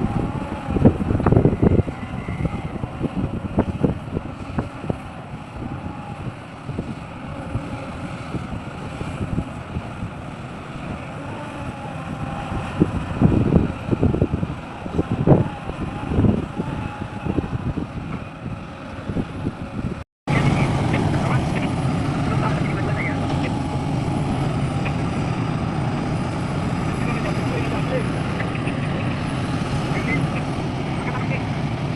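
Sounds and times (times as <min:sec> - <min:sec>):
excavator engine rumble: 0:00.0 - 0:31.9.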